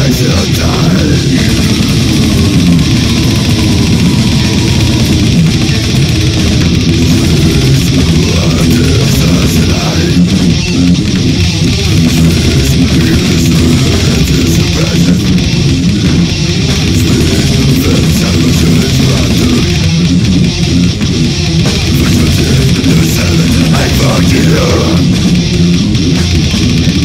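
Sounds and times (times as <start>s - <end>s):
death metal with distorted guitars: 0.0s - 27.0s.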